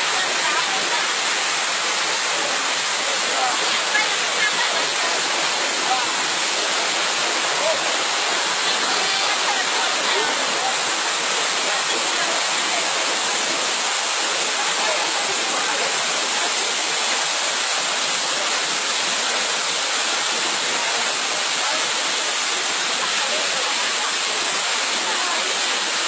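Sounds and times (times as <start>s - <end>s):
waterfall rushing into pool: 0.0s - 26.0s.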